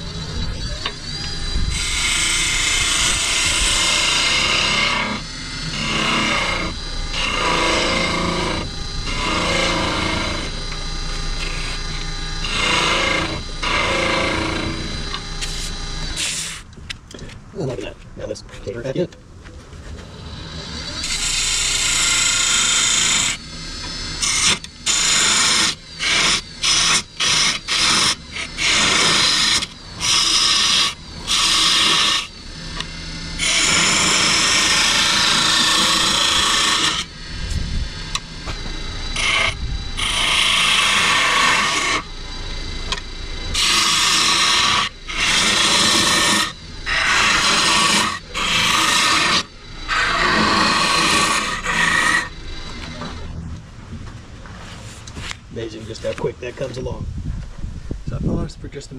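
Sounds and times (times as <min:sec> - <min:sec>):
wood lathe gouge cutting shavings: 0:00.0 - 0:16.6, 0:20.1 - 0:53.2.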